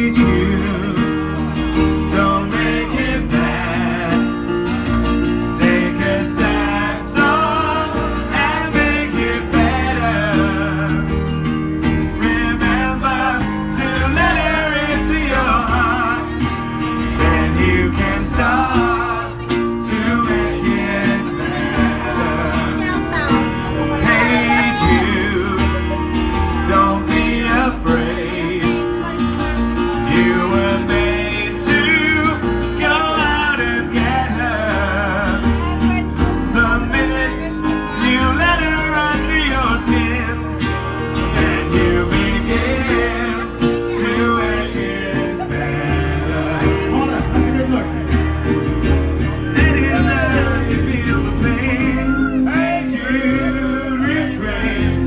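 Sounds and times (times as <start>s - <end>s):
acoustic guitar: 0.0s - 55.0s
man singing: 0.0s - 55.0s.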